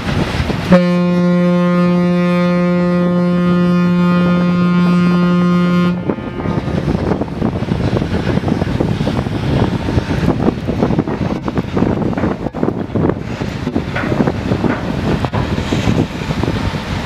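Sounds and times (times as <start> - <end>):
wind buffeting microphone: 0.0 - 17.0
ship's horn blast: 0.2 - 16.7.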